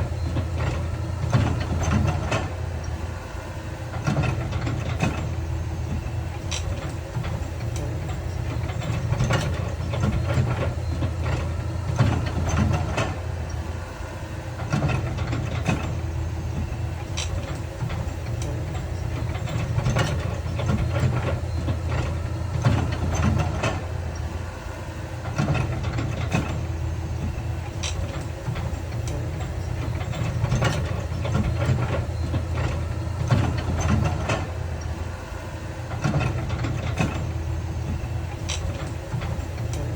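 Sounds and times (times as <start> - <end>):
diesel earthmoving machinery engine: 0.0 - 39.9.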